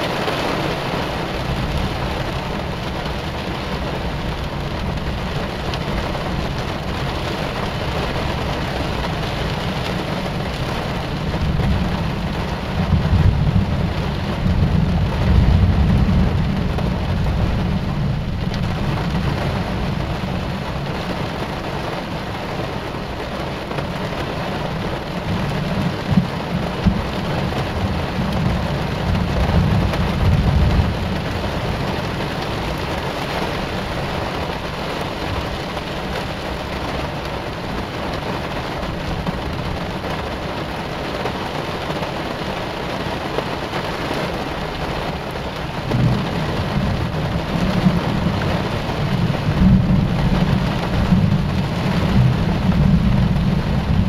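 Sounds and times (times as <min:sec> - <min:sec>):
low thunder rumbling: 0:00.0 - 0:22.4, 0:23.7 - 0:40.8, 0:45.1 - 0:54.0
heavy rain: 0:00.0 - 0:54.0.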